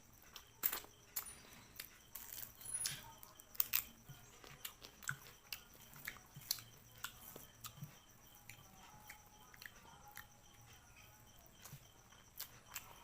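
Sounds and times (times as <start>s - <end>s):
chewing and biting: 0.3s - 13.0s.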